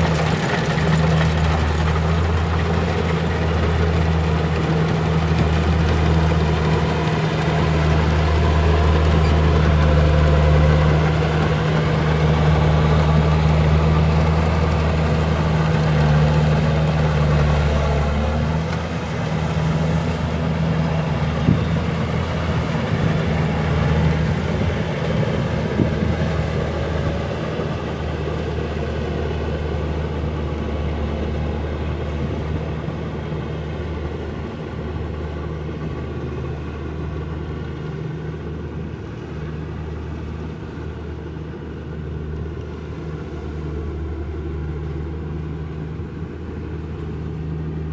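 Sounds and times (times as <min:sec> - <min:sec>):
combine harvester engine humming: 0:00.0 - 0:47.9.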